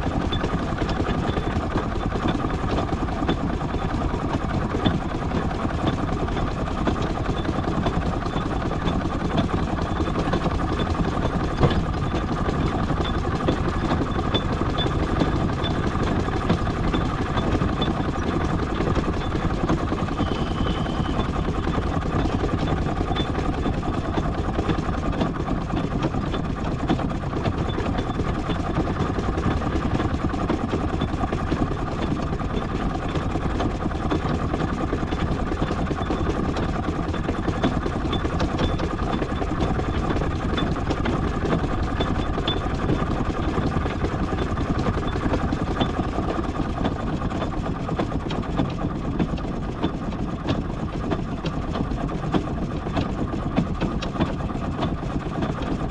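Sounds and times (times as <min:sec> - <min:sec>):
steam traction engine running: 0:00.0 - 0:55.9.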